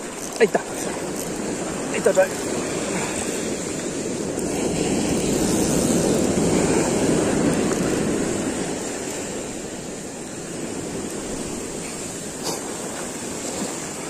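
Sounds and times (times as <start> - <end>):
ocean wave breaking: 0.0 - 14.0.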